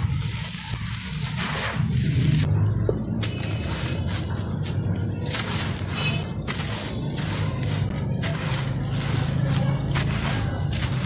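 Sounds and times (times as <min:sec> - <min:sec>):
dry clumps crunching on floor: 0:00.0 - 0:02.5, 0:03.1 - 0:11.0.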